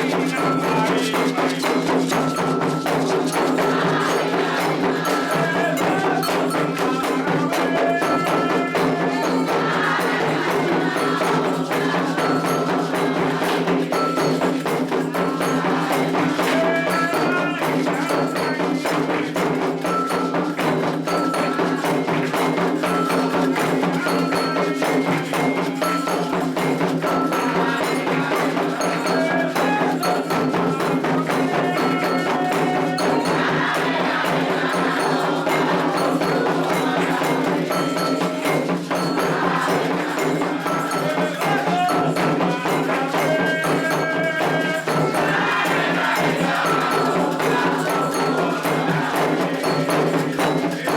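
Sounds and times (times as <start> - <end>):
hand drums beating: 0.0 - 50.9
voices singing: 0.0 - 50.9.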